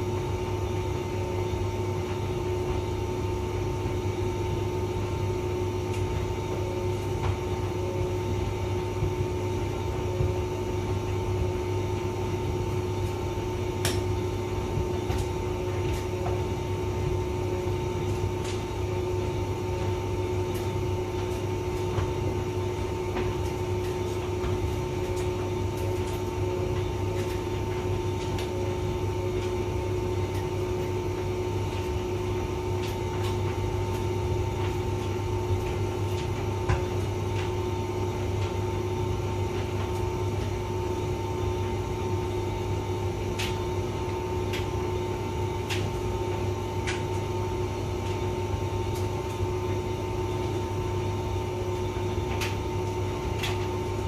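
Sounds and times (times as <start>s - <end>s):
tumble dryer humming: 0.0s - 54.0s.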